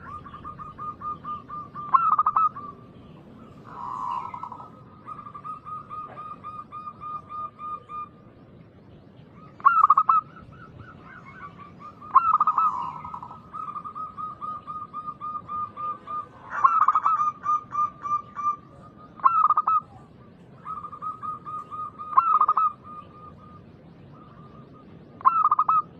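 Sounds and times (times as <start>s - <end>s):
doves cooing: 0.0s - 25.9s.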